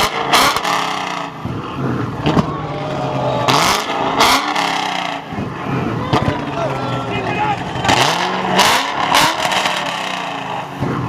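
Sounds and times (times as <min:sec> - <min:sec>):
car engine revving: 0:00.0 - 0:11.0
exhaust pops and crackles: 0:00.0 - 0:11.0.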